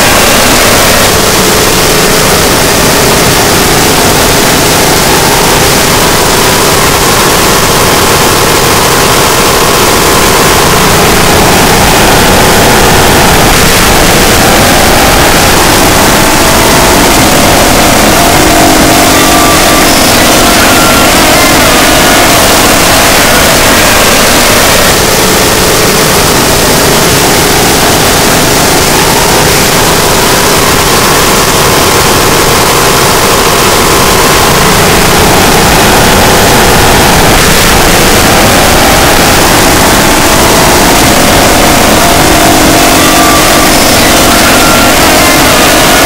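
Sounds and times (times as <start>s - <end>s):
distorted electronic noise: 0.0s - 46.0s.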